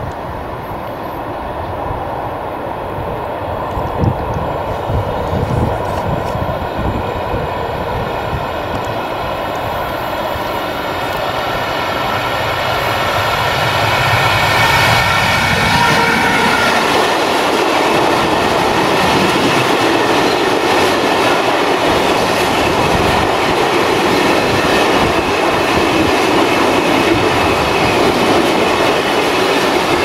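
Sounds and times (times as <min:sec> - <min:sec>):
freight train rumble: 0:00.0 - 0:30.0
locomotive whine: 0:00.1 - 0:30.0.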